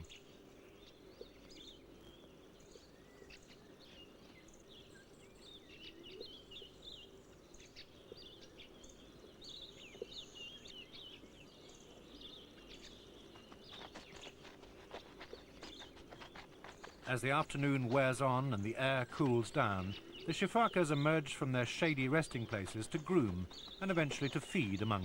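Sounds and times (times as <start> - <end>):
wild birds chirping: 0.0 - 25.0.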